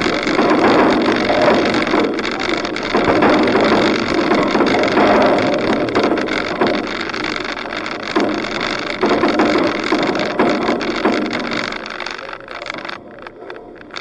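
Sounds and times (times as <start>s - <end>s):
vehicle running noise: 0.0s - 14.0s.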